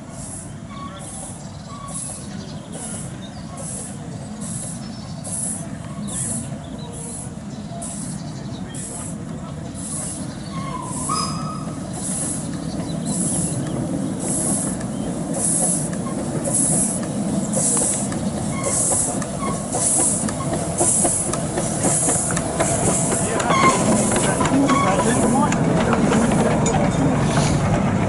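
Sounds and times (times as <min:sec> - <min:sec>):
steam locomotive chuffing: 0:00.0 - 0:28.0.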